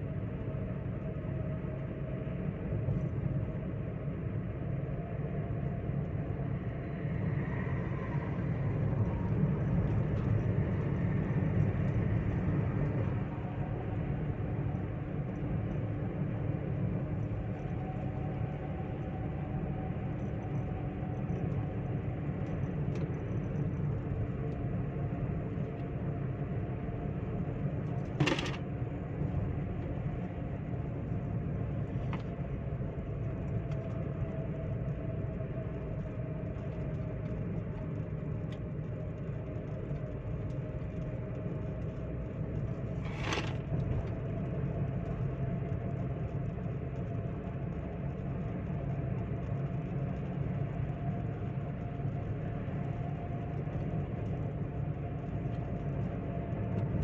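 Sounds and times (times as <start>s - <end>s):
faint engine hum: 0.0s - 57.0s
road and tyre noise: 0.0s - 57.0s.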